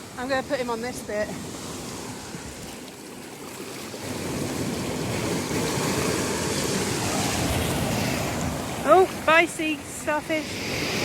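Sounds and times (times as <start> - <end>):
small waves washing in: 0.0 - 11.0.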